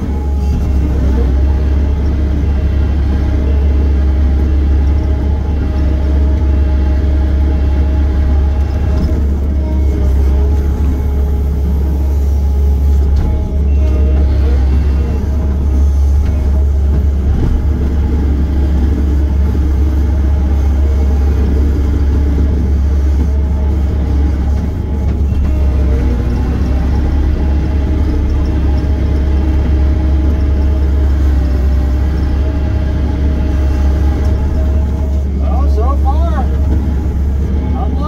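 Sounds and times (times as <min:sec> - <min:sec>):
heavy machine diesel engine drone: 0:00.0 - 0:38.0.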